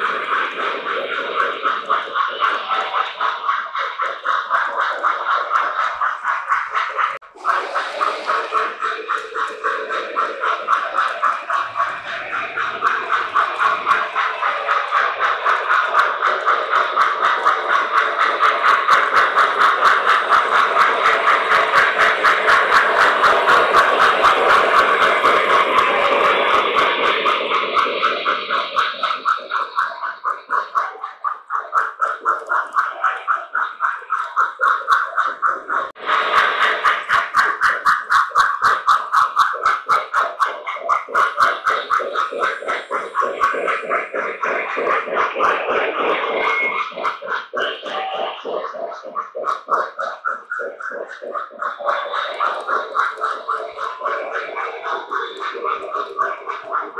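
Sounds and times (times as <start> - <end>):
model steam locomotive chuffing: 0.0 - 56.9.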